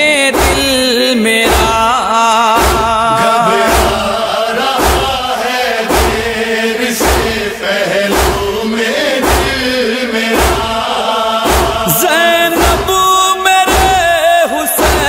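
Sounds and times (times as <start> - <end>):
male chanted vocals: 0.0 - 15.0
heavy drum beat: 0.2 - 15.0.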